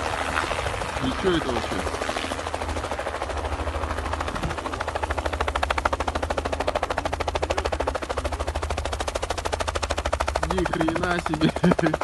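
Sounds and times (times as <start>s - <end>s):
helicopter rotor blades chopping: 0.0s - 12.0s
steady low hum: 0.0s - 12.0s.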